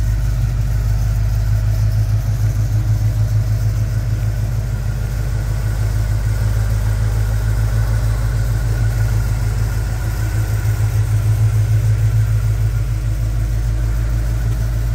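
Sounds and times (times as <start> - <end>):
pickup engine idling: 0.0 - 14.9.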